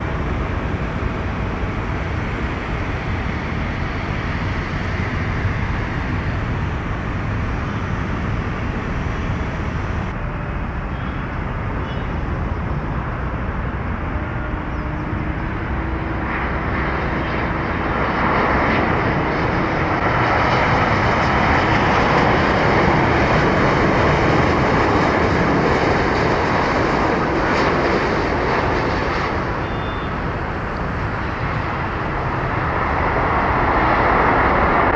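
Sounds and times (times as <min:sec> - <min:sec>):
jet airliner engines running: 0:00.0 - 0:34.9.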